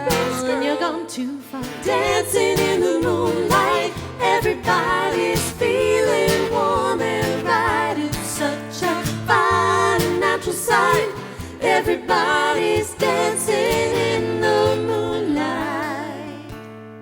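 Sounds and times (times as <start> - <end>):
voices singing in harmony: 0.0 - 16.6
acoustic guitar: 0.0 - 17.0.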